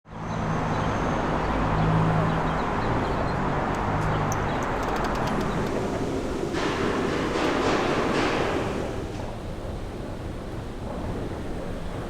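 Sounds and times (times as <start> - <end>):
subway train rumbling: 0.2 - 12.0.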